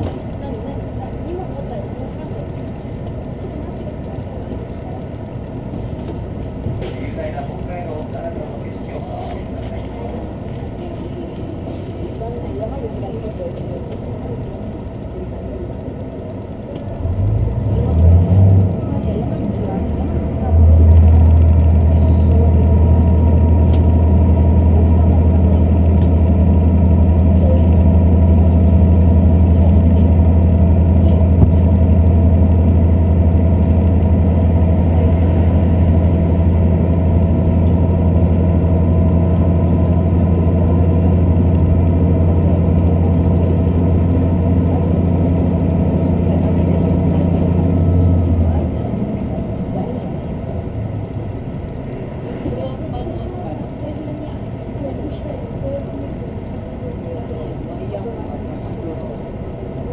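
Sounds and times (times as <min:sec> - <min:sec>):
train engine drone: 0:00.0 - 0:59.9
train wheel and rail noise: 0:00.0 - 0:59.9.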